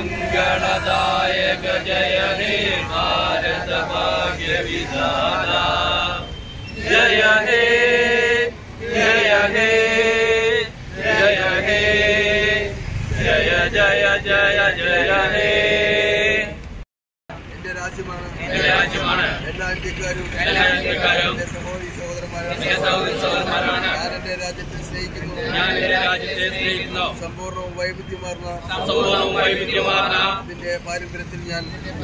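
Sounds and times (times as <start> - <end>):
men singing in unison: 0.0 - 16.6, 18.5 - 19.4, 20.2 - 24.2, 24.8 - 27.4, 28.6 - 30.5.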